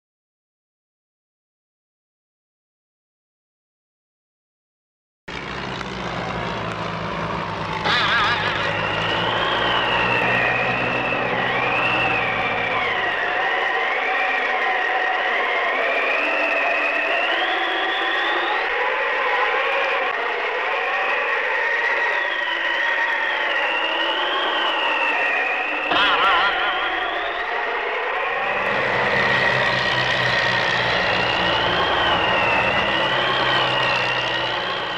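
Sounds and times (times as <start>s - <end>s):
wavering high whine: 6.3s - 34.9s.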